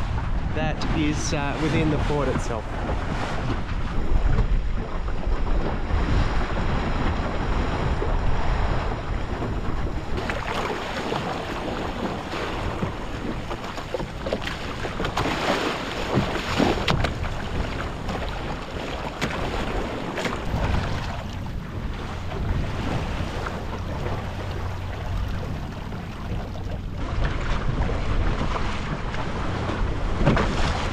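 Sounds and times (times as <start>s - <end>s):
water splashing along hull: 0.0s - 30.9s
wind buffeting microphone: 0.0s - 30.9s.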